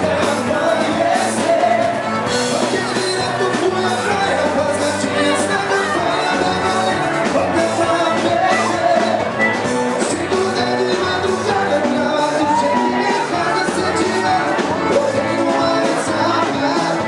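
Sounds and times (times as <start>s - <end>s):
rock or pop song with singing: 0.0s - 17.0s.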